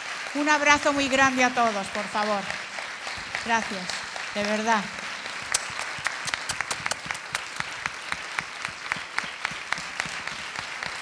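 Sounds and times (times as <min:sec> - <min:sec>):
audience applauding: 0:00.0 - 0:11.0
close hand claps: 0:00.0 - 0:11.0.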